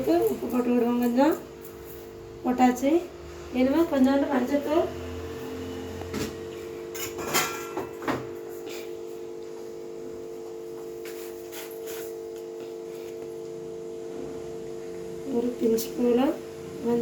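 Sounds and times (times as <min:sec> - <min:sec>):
steady hum of held tones: 0:00.0 - 0:17.0.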